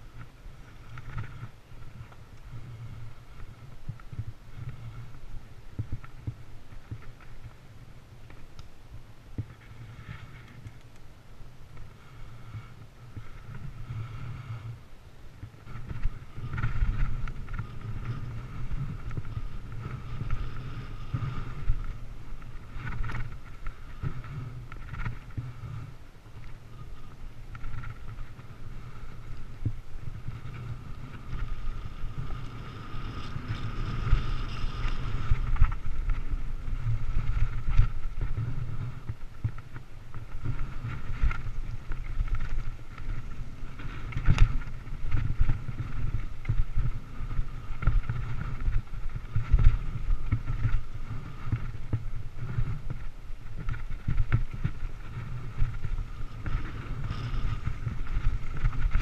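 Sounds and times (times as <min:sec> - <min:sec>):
bike wheels whirring: 0:00.0 - 0:59.0
wind rumbling on microphone: 0:00.0 - 0:59.0.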